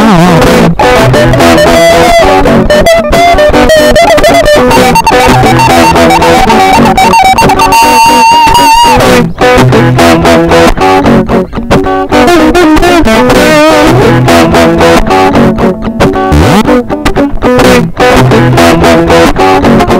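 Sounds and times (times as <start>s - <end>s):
bass guitar: 0.0s - 19.9s
electric guitar lead: 0.0s - 19.9s.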